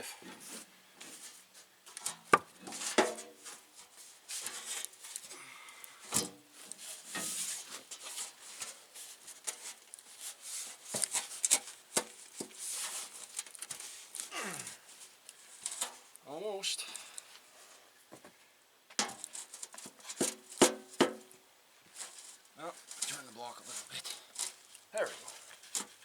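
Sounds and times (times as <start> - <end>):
scraping and rustling: 0.3 - 5.4, 6.1 - 16.2, 19.0 - 21.2, 21.8 - 26.0.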